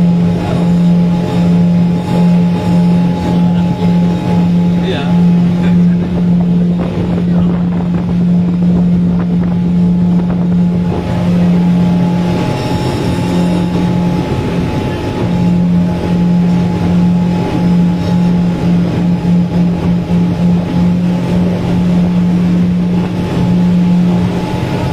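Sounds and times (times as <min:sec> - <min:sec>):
outboard motor droning: 0:00.0 - 0:24.9.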